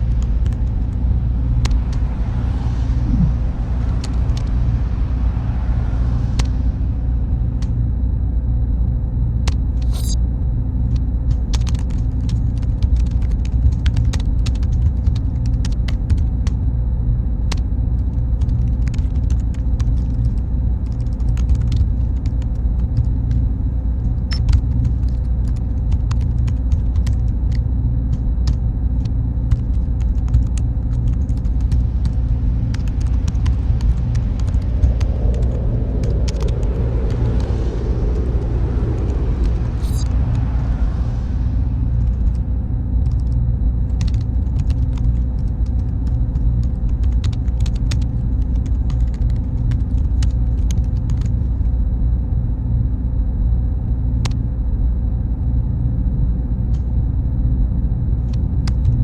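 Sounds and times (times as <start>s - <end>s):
faint high whine: 0.0s - 11.3s, 19.4s - 59.0s
machines and cooling fans humming: 0.0s - 59.0s.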